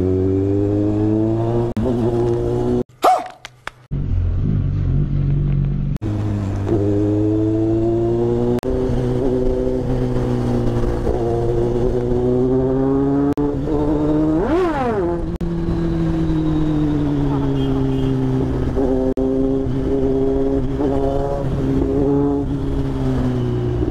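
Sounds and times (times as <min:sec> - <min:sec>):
motorcycle engine cruising: 0:00.0 - 0:23.9.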